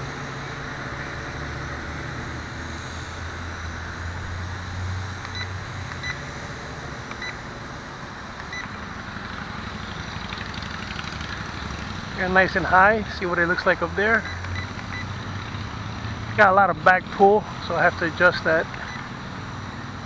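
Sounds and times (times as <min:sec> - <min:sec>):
quadcopter motors droning: 0:00.0 - 0:20.0.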